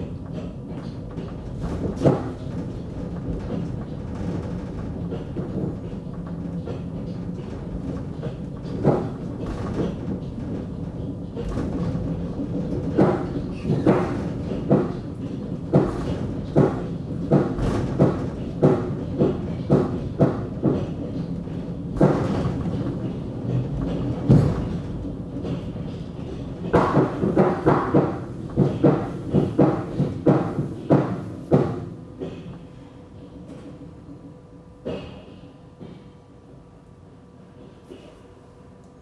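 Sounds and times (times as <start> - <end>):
suspended railway car rumbling: 0.0 - 39.0.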